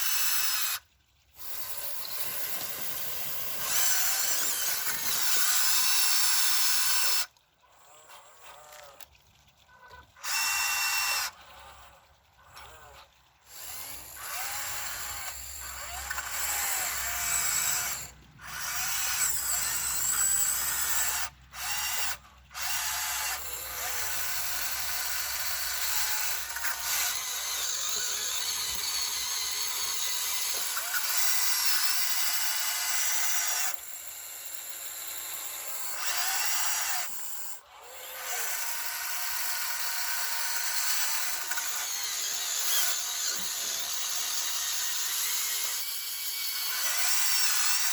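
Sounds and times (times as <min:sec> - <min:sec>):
toy excavator motors whirring: 0:00.0 - 0:47.9.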